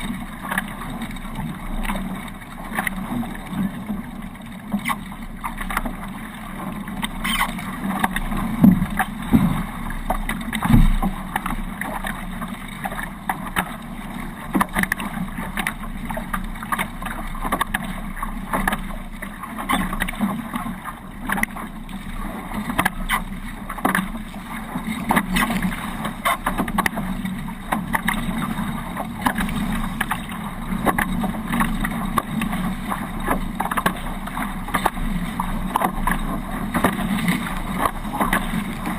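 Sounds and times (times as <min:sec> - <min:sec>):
water rushing past hulls: 0:00.0 - 0:38.9
sharp knocks and splashes: 0:07.0 - 0:13.8, 0:14.5 - 0:38.9.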